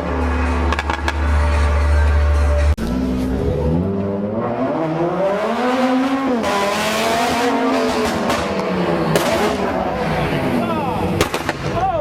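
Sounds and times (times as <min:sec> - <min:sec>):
car engine revving: 0:00.0 - 0:11.5
exhaust rush: 0:00.0 - 0:12.0
road noise: 0:00.0 - 0:12.0.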